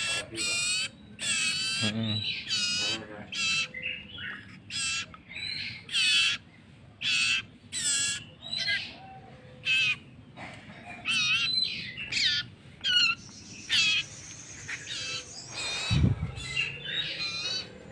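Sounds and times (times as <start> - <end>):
baby bird begging calls: 0.0 - 10.1, 11.0 - 17.9.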